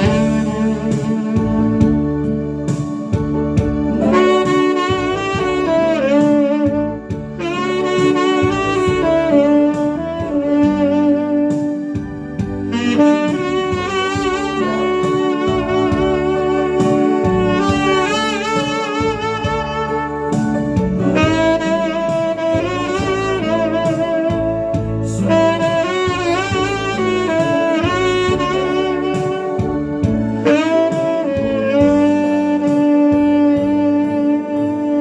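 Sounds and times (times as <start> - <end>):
instrumental accompaniment: 0.0 - 35.0
tenor saxophone melody: 0.0 - 35.0.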